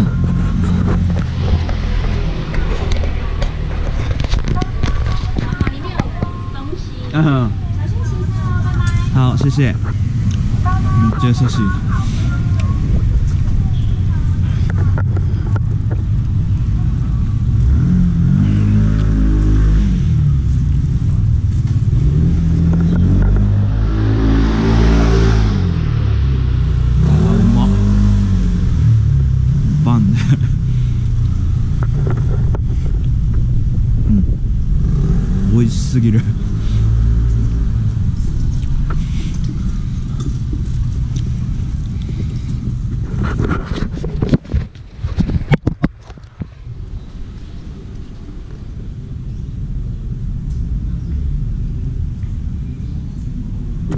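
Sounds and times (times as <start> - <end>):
low traffic rumble: 0.0 - 53.9
vehicles passing: 0.0 - 53.9.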